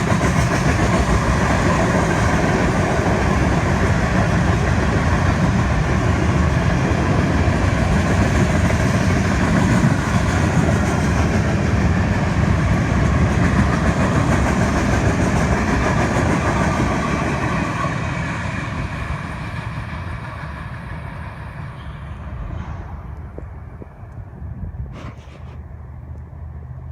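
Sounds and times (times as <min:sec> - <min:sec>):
freight train rolling past: 0:00.0 - 0:26.9.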